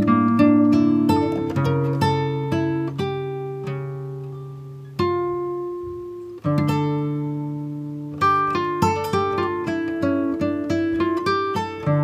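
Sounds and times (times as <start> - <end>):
acoustic guitar plucked and chords: 0.0 - 12.0.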